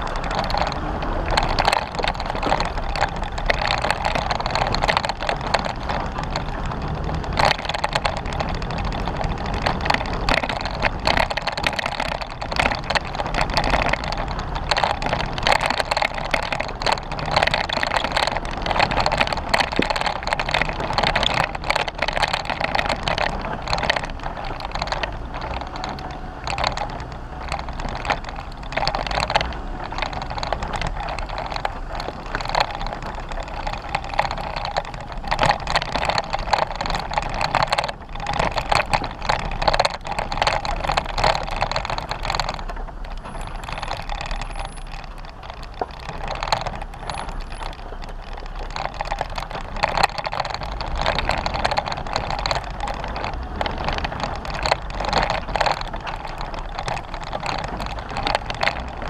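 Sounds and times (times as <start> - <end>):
knocks and rattles: 0.0 - 59.0
vehicle driving on dirt trail: 0.0 - 59.0.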